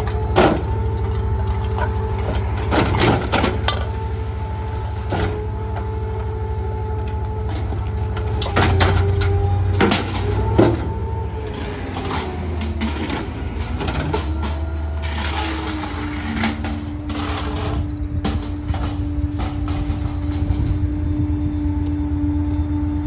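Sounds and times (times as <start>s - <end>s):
trash and metal bin clattering: 0.0s - 21.2s
garbage truck engine running: 0.0s - 23.0s
hydraulic packer whine: 0.0s - 23.0s.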